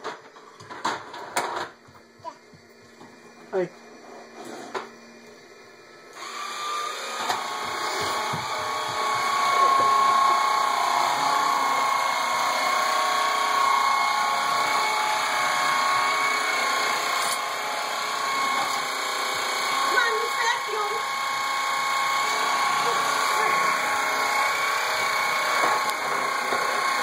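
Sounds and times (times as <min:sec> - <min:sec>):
vacuum cleaner whining: 0:00.0 - 0:27.0.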